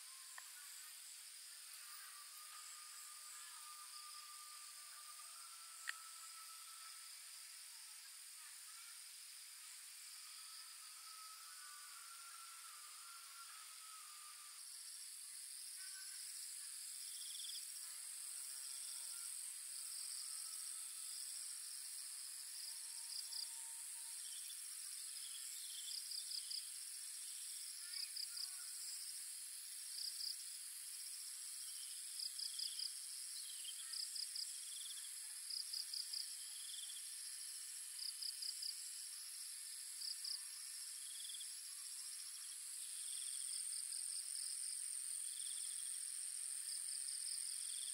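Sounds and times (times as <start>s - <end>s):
crickets chirping: 0.0s - 47.9s
high-pitched insect drone: 0.0s - 47.9s.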